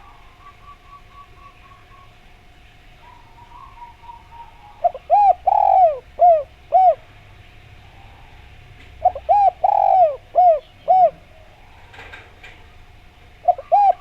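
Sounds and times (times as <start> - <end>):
dove cooing: 0.0 - 2.2, 3.0 - 7.2, 7.8 - 14.0.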